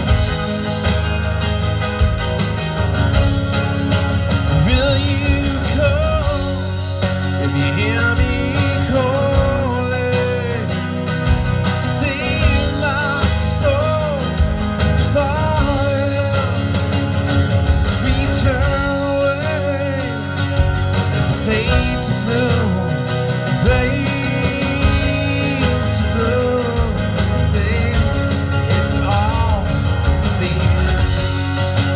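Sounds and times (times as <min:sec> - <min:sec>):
drum hits: 0:00.0 - 0:22.8, 0:23.6 - 0:31.9
bass: 0:00.0 - 0:31.9
lead guitar with bending notes: 0:00.0 - 0:31.9.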